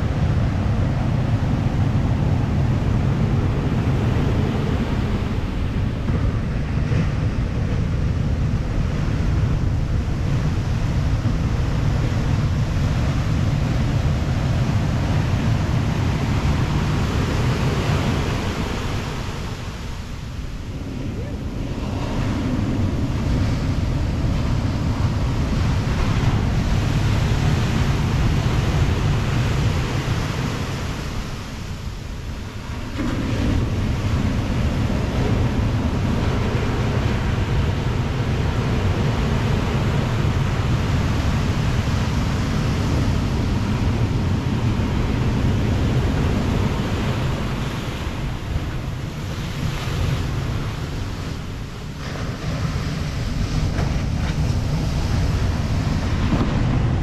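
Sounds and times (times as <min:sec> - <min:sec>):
surf breaking on sand: 0:00.0 - 0:57.0
wind rumble on microphone: 0:00.0 - 0:57.0.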